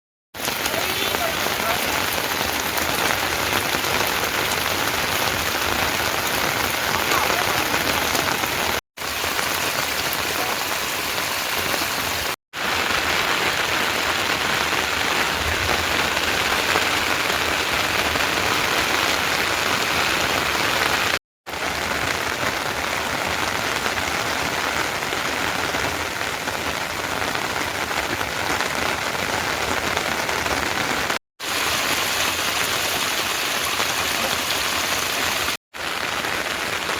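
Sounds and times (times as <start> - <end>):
heavy rain falling: 0.4 - 36.9.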